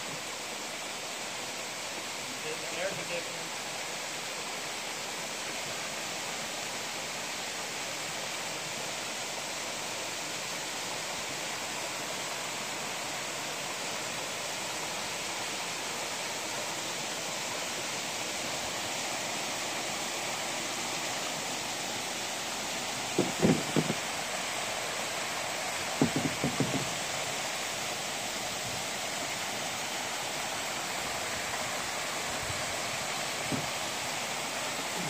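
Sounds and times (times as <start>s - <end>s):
small waterfall splashing: 0.0s - 35.0s.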